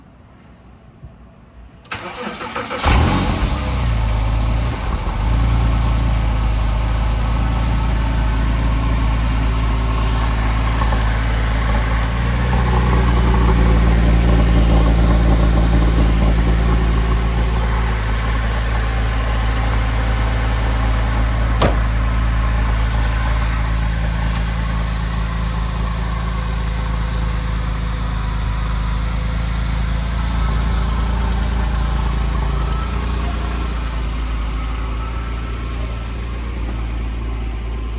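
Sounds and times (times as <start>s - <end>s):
car engine idling: 1.9s - 37.9s.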